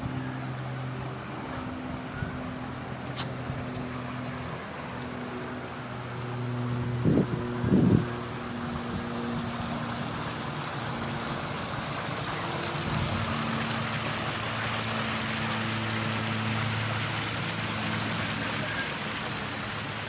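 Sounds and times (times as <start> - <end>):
water running over rocks: 0.0 - 20.0.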